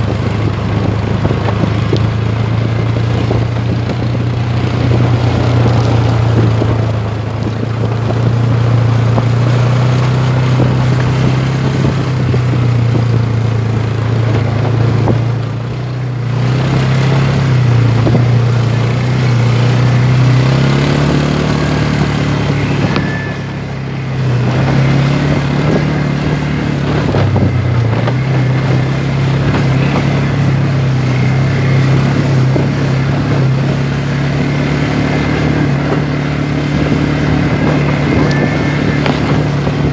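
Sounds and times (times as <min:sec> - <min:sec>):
quad engine under load: 0:00.0 - 0:39.9.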